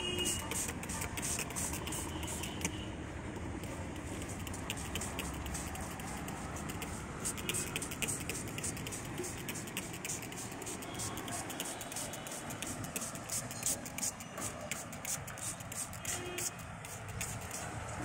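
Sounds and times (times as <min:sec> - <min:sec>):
spray bottle squirting: 0:00.0 - 0:02.8, 0:03.6 - 0:18.0.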